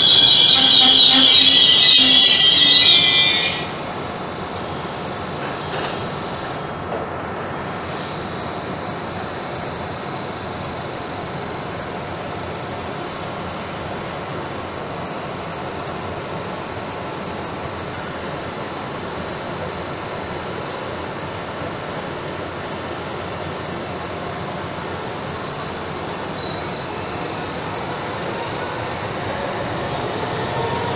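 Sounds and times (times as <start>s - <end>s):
electric train rumbling slowly: 0.0s - 30.9s.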